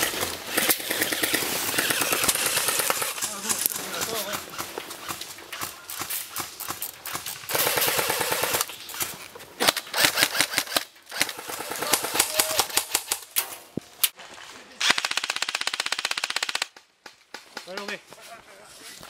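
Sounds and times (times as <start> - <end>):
airsoft guns firing: 0.0 - 13.4, 14.8 - 17.9.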